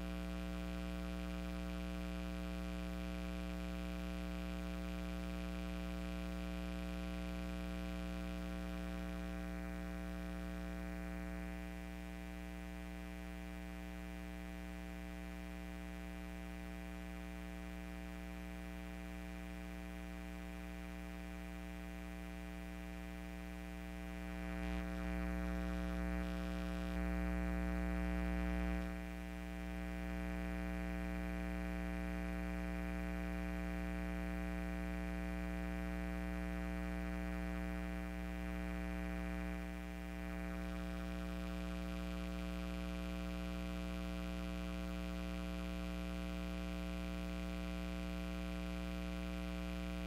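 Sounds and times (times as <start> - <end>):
electrical mains hum: 0.0 - 50.0.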